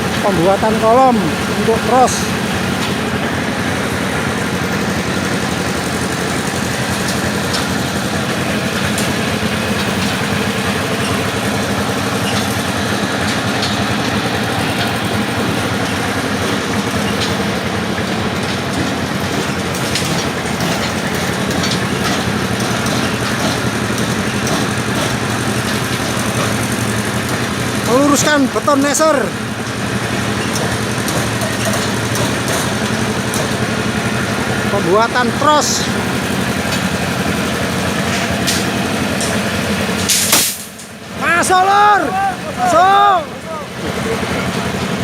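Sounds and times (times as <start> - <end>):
machine motor running: 0.0 - 45.0.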